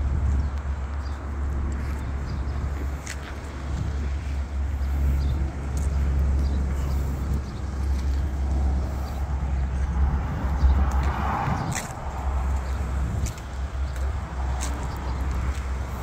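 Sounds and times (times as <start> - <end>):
road traffic noise: 0.0 - 16.0
wind rumble on microphone: 0.0 - 16.0
vehicle passing: 2.6 - 16.0.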